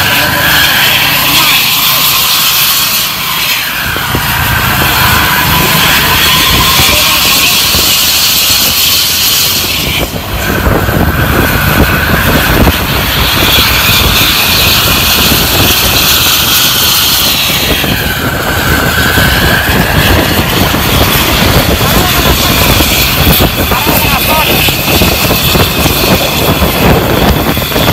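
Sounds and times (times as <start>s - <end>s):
bus exhaust jet-like whine: 0.0s - 27.9s.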